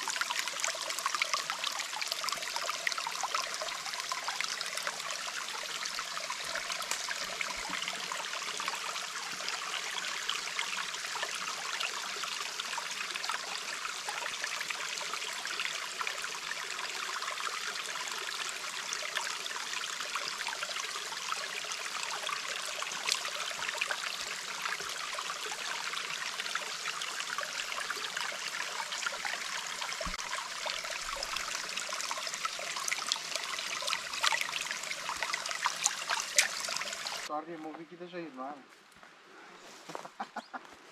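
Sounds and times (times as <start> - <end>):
stream water trickling: 0.0 - 39.3.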